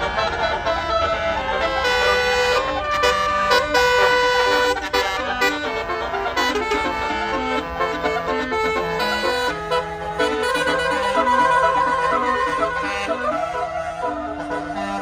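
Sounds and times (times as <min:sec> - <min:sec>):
bus engine running: 0:00.0 - 0:15.0
musical bus horn playing a tune: 0:00.0 - 0:15.0.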